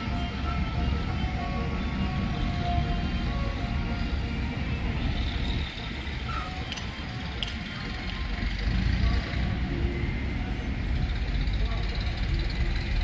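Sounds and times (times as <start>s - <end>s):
road noise: 0.0s - 13.0s
vehicle engines rumbling: 0.0s - 13.0s.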